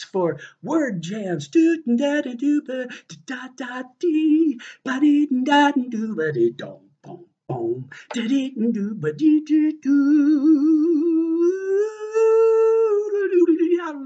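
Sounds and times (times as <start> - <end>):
man wordless singing: 0.0 - 14.0.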